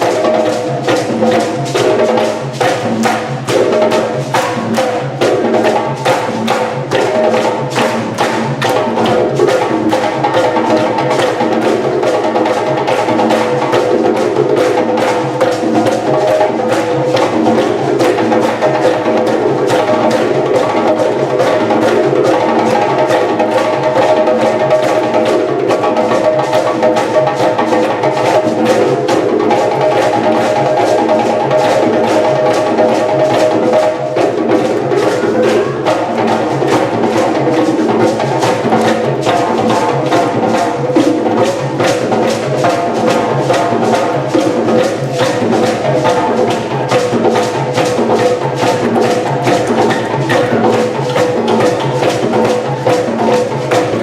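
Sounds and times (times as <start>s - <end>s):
drum ensemble playing fast rhythm: 0.0s - 54.0s.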